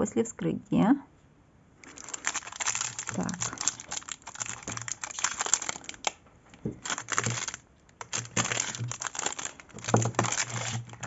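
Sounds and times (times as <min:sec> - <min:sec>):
plastic bags crinkling: 0:01.8 - 0:11.0.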